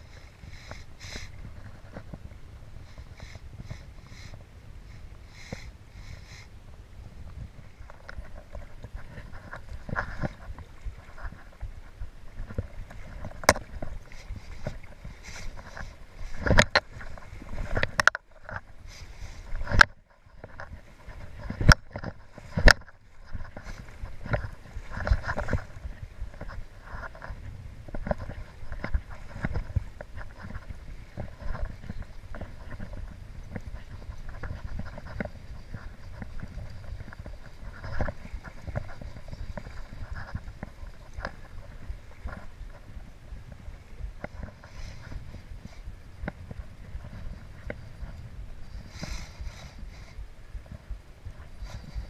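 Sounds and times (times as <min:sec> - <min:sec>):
wind: 0:00.0 - 0:52.0.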